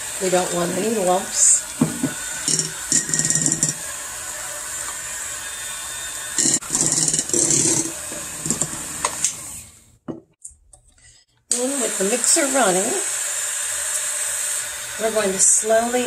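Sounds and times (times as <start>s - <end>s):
electric hand mixer running: 0.0s - 9.9s, 11.5s - 16.0s.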